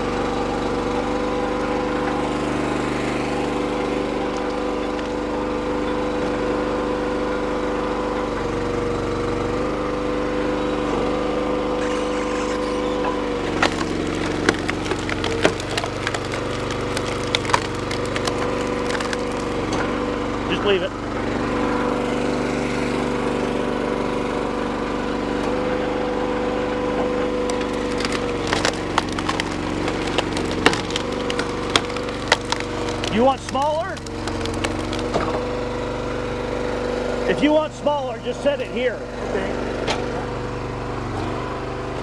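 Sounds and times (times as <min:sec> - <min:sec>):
log splitter engine running: 0:00.0 - 0:42.0
wood cracking and splintering: 0:00.2 - 0:07.6, 0:11.0 - 0:24.7, 0:25.3 - 0:39.1.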